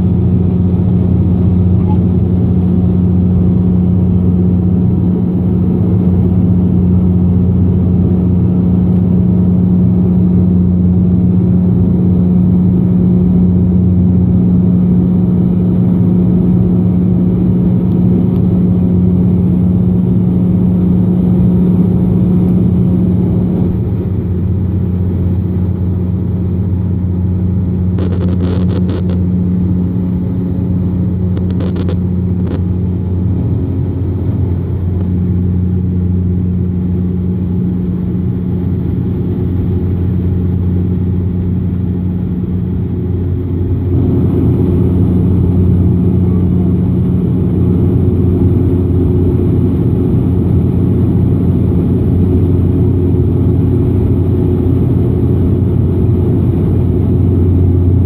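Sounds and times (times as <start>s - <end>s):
turboprop cabin drone: 0.0s - 58.0s.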